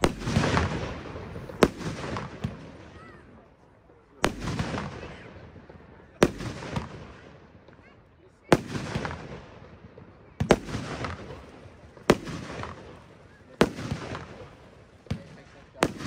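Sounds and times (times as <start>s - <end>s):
firework bangs: 0.0s - 3.5s, 4.2s - 16.0s.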